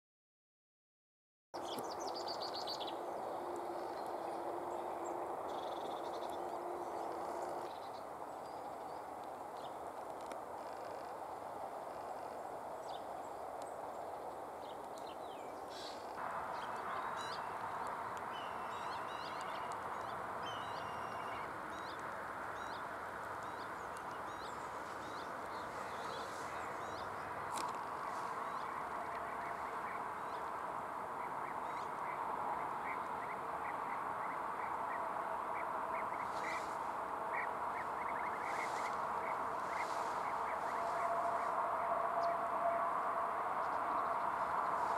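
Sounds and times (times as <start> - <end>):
background hiss: 1.6 - 42.0
rapidly repeated bird calls: 1.6 - 42.4.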